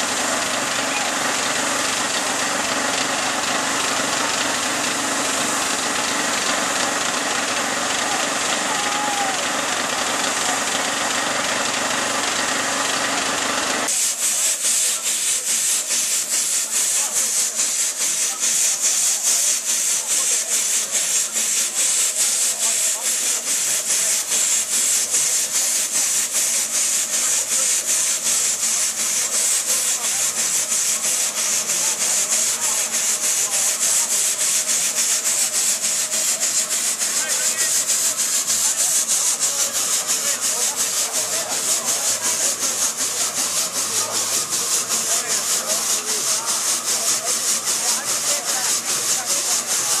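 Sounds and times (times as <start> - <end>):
crowd voices: 0.0 - 50.0
steam engine hissing chuffs: 0.0 - 50.0.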